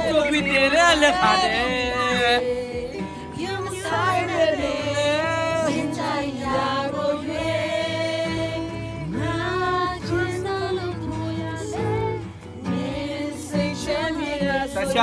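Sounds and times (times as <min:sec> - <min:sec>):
music with bass line: 0:00.0 - 0:15.0.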